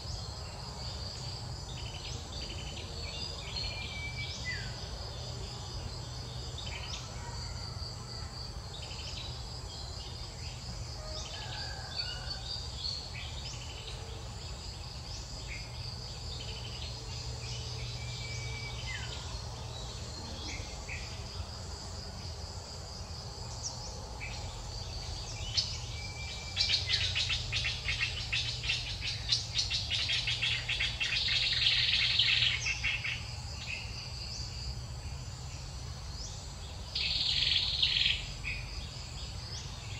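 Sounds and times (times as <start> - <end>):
crickets and cicadas trilling: 0.0 - 39.9.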